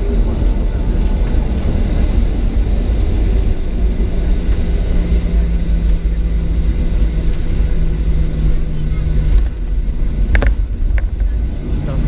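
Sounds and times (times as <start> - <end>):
jet engine rumble in cabin: 0.0 - 12.0
low steady hum: 0.0 - 12.0.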